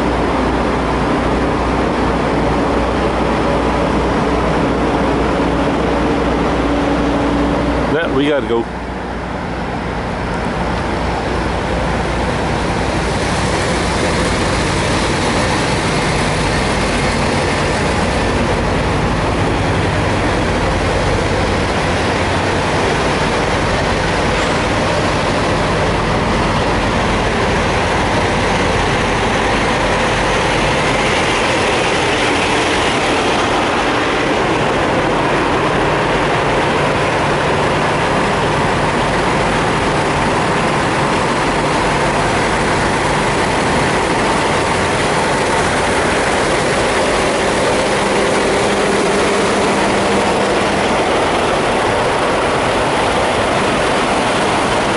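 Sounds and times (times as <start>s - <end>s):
diesel truck engines idling: 0.0s - 54.9s.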